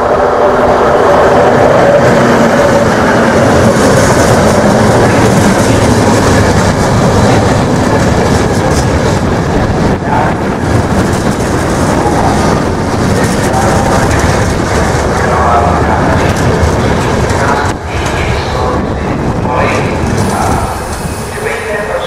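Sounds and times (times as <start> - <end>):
train wheels rushing on rails: 0.0 - 22.0.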